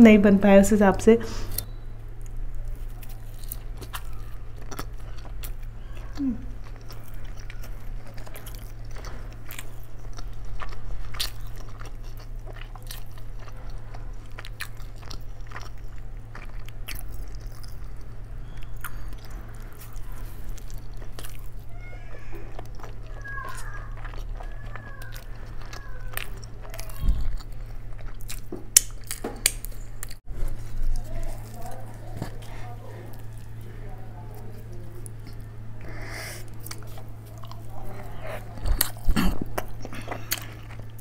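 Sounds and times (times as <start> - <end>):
steady low hum: 0.0 - 41.0
chewing food: 1.5 - 41.0.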